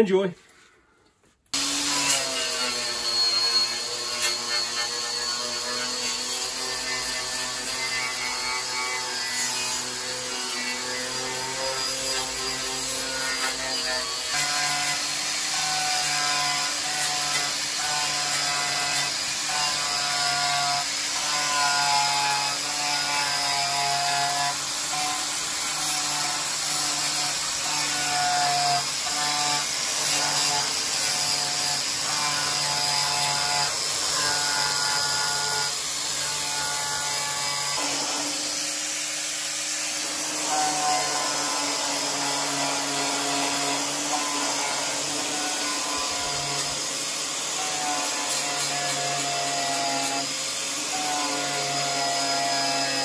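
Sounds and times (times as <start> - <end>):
angle grinder grinding metal: 1.5 - 53.0.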